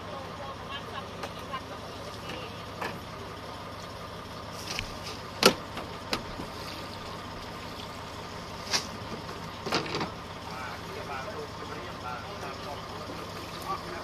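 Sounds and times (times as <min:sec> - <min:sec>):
steady engine hum: 0:00.0 - 0:14.0.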